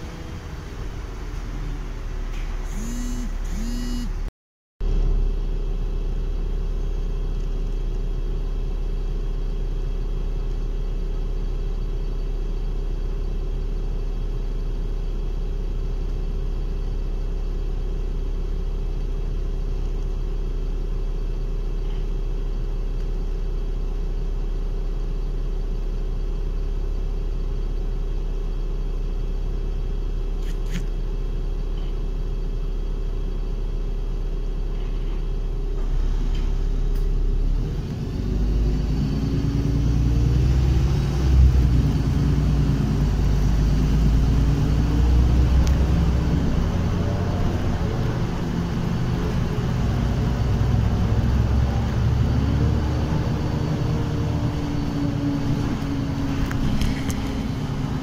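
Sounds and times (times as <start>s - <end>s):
bus engine idling: 0.0s - 4.3s, 4.9s - 58.0s.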